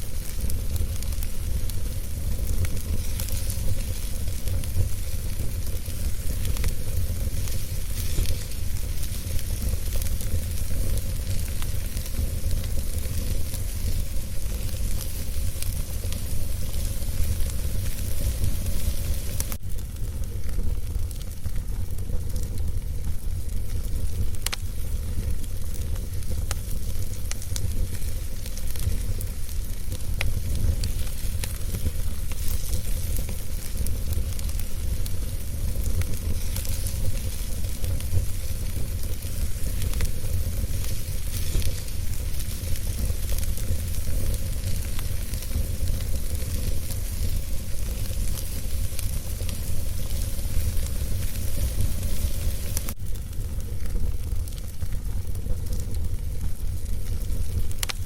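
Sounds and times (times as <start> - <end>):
small pops and hiss: 0.0 - 58.0
wood fire crackling: 0.0 - 58.0.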